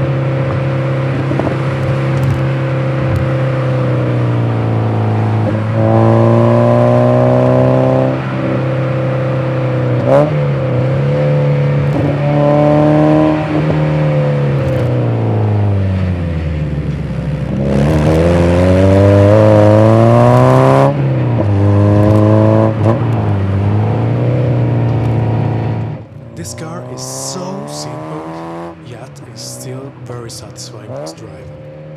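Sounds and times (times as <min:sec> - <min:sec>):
car engine revving through gears: 0:00.0 - 0:31.9.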